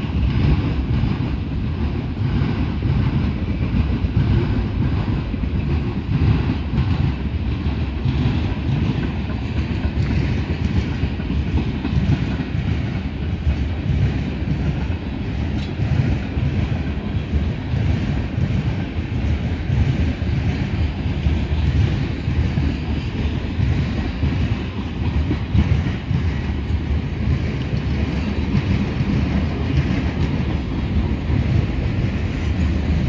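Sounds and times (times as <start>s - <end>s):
freight train wheels rumbling: 0.0s - 33.0s.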